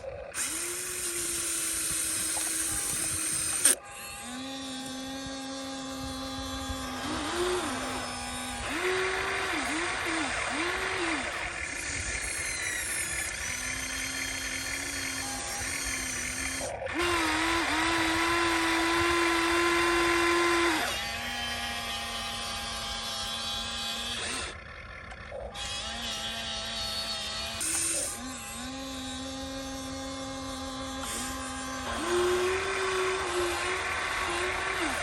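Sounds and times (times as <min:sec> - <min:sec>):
electric motors whining: 0:00.0 - 0:35.0.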